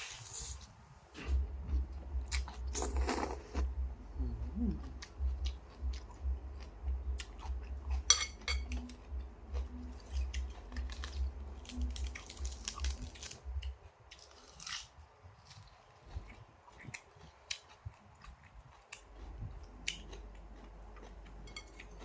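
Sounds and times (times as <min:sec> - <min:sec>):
person chewing noodles: 0:01.3 - 0:22.0.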